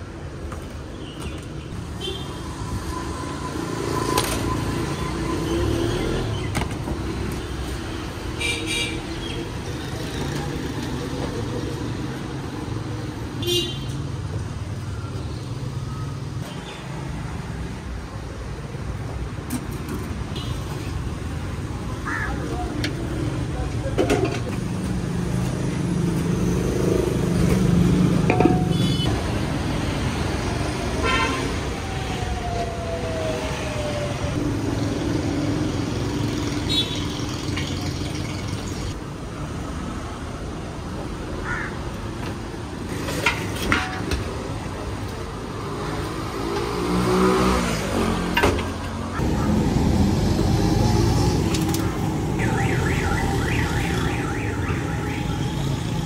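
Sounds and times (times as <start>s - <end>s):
traffic engines running: 0.0s - 56.0s.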